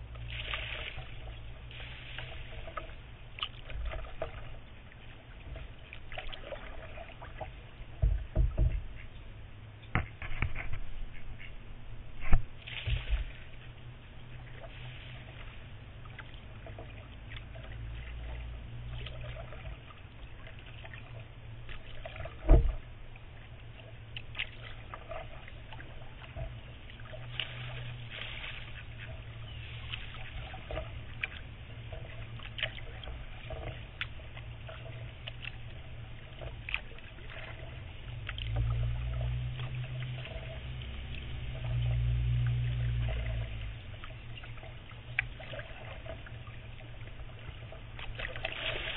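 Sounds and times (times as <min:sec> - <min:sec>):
water drips from paddle: 0:00.0 - 0:09.1, 0:12.2 - 0:48.9
kayak paddle dipping into water: 0:00.0 - 0:11.5, 0:12.1 - 0:48.9
low rumble: 0:00.0 - 0:48.9.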